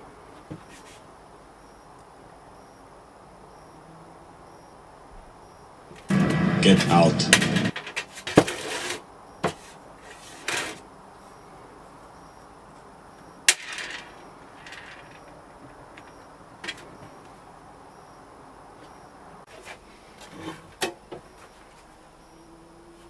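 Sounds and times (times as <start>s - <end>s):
low steady background noise: 0.0s - 23.0s.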